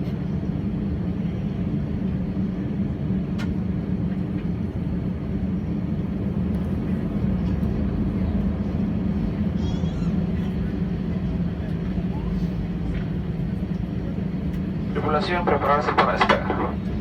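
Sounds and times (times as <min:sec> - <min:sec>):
jet engine cabin hum: 0:00.0 - 0:17.0.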